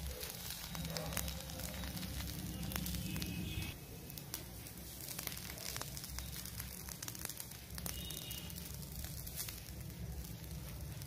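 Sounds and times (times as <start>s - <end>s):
batter sizzling and crackling on pan: 0.0s - 11.0s.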